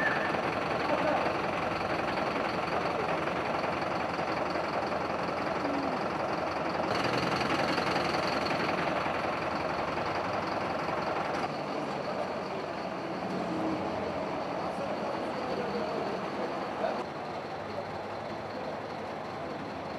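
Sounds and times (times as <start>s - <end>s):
fire engine motor idling: 0.0s - 19.9s.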